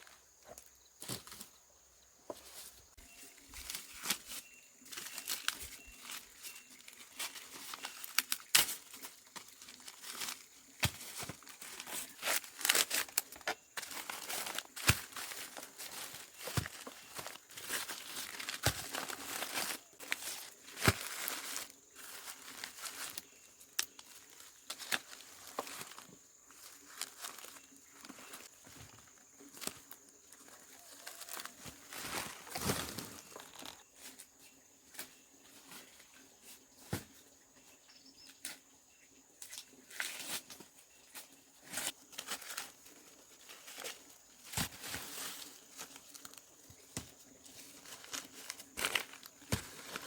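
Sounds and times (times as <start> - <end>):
corn husks rustling and tearing: 2.3 - 37.3, 39.4 - 50.0.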